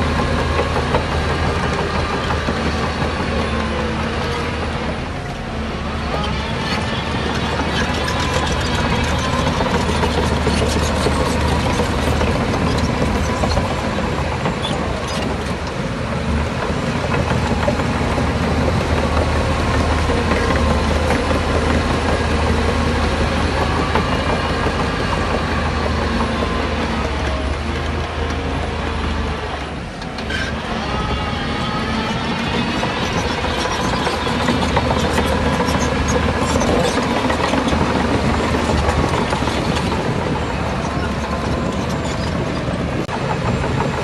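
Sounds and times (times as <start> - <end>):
diesel machinery engine drone: 0.0 - 44.0.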